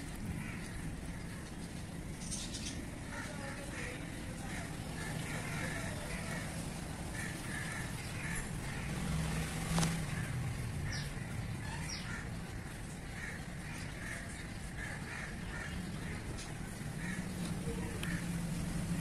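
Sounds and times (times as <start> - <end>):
birds calling harshly: 0.2 - 19.0.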